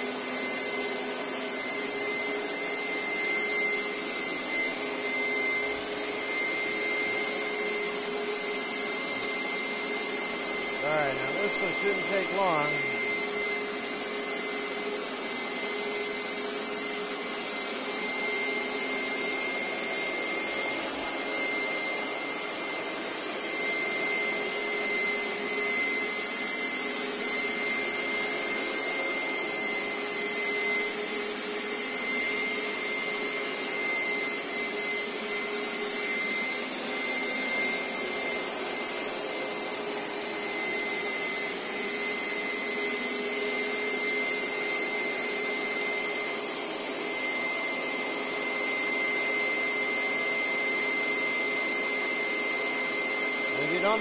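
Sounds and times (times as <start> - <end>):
carpet cleaner motor whine: 0.0 - 54.0.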